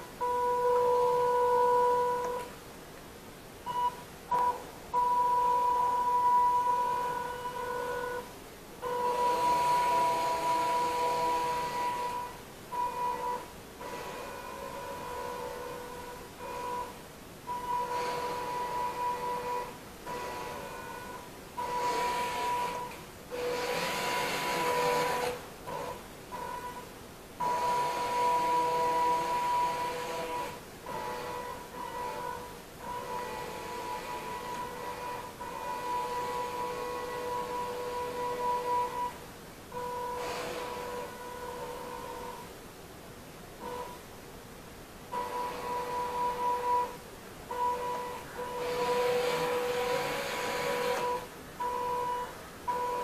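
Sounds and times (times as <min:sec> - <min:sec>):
electric motors whining: 0:06.6 - 0:26.7, 0:27.4 - 0:42.5, 0:45.1 - 0:53.0.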